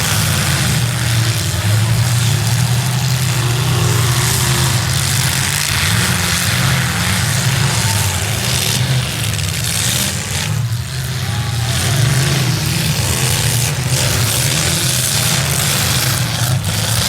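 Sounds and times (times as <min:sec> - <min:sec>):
car engines droning: 0:00.0 - 0:17.0.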